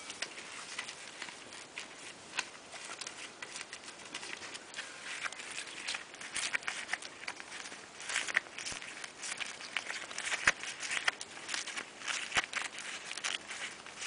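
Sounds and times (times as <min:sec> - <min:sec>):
gloved hands rustling and scraping: 0:00.0 - 0:14.0.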